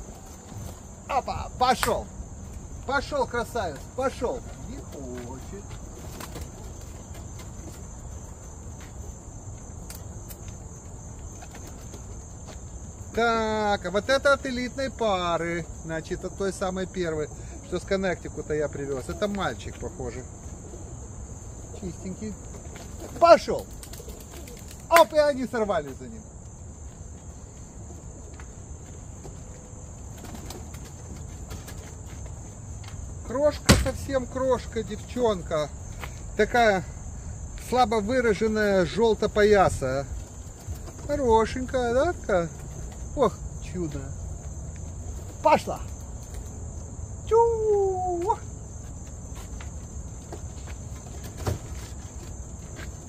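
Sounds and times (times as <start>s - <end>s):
crickets chirping: 0.0s - 53.0s
high-pitched insect chorus: 0.0s - 53.0s.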